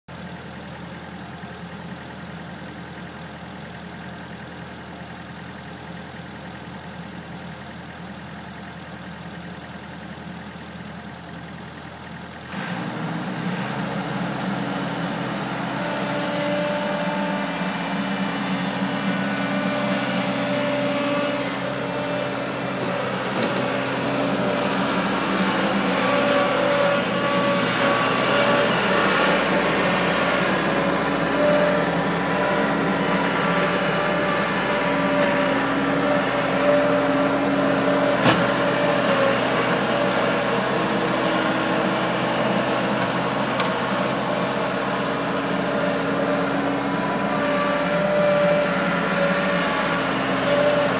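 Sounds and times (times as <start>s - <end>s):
loader engine running: 0.1s - 50.9s.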